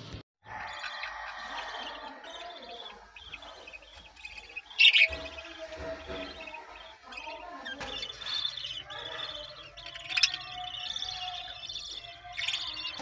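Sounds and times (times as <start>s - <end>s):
budgerigars chirping and chattering: 0.5s - 13.0s.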